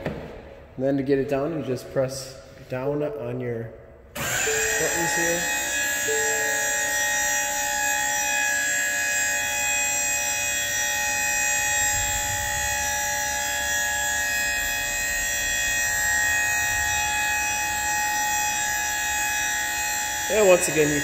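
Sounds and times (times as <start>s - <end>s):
hydraulic pump whining: 4.1s - 21.0s.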